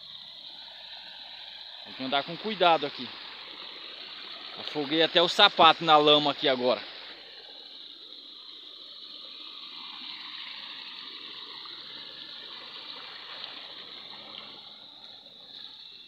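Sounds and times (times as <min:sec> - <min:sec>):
stream running over stones: 0:00.0 - 0:16.0.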